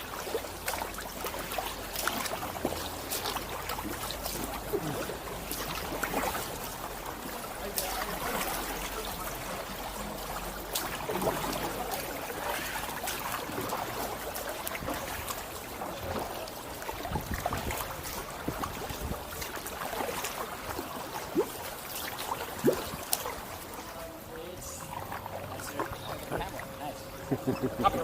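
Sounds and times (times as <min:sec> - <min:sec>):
water dripping off paddle: 0:00.0 - 0:27.7
paddle dipping into water: 0:00.0 - 0:28.0.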